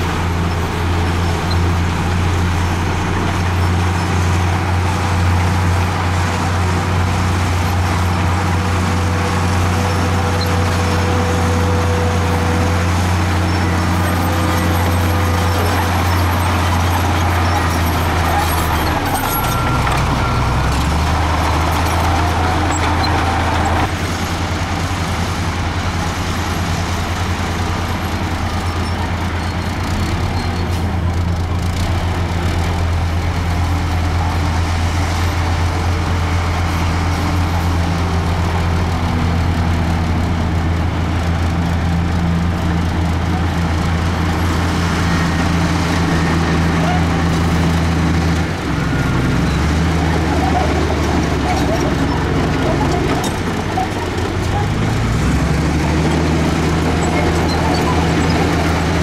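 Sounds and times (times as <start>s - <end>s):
bulldozer diesel engine: 0.0s - 59.0s
dump truck engine: 0.0s - 59.0s.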